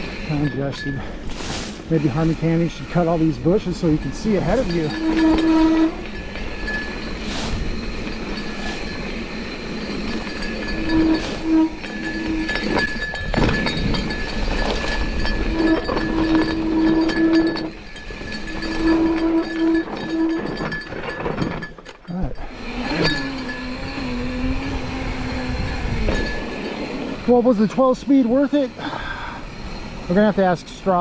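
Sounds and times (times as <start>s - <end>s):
steady buzz: 0.0s - 20.9s, 22.4s - 31.0s
bike tyres rattling on dirt: 0.0s - 31.0s.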